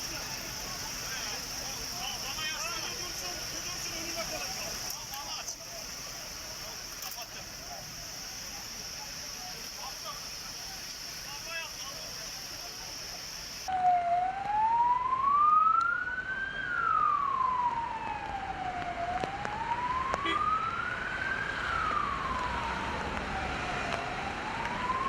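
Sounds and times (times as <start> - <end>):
emergency siren wailing: 0.0 - 9.8, 13.6 - 25.0.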